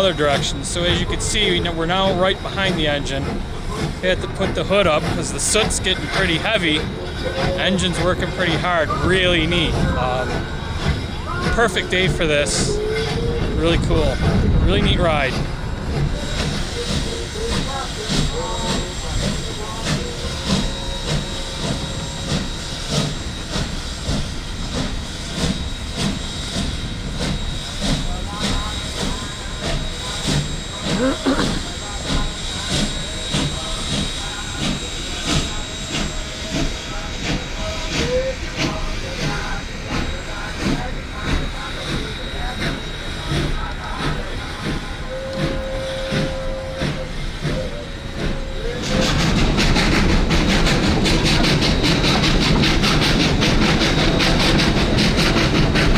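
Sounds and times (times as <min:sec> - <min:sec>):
high squeal: 0:00.0 - 0:55.9
steam hissing: 0:00.0 - 0:55.9
steam locomotive chuffing: 0:00.0 - 0:55.9.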